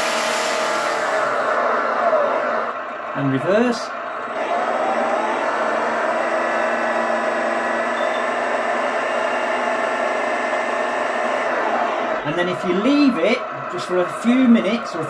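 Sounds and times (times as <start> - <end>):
simulated engine from speaker: 1.3 - 15.0.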